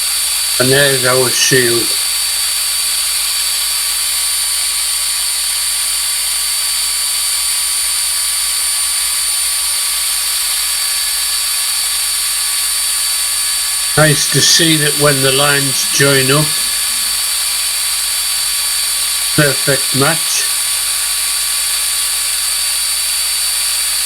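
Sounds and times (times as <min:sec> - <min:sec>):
wood router whining: 0:00.0 - 0:24.0.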